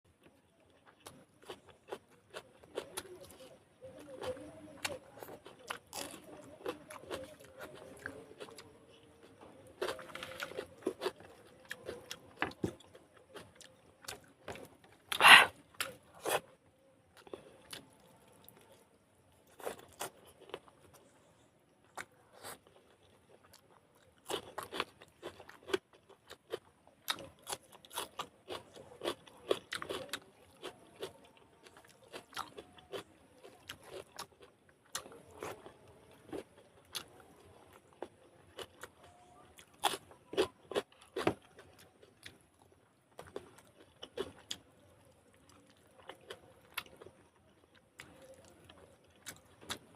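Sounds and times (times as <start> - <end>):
person chewing food: 0.2 - 16.6, 17.2 - 49.9.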